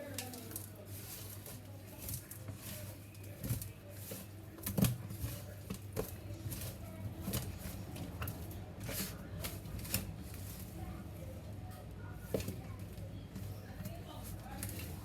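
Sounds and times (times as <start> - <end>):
food preparation knocks and clicks: 0.0 - 10.7, 11.7 - 15.0.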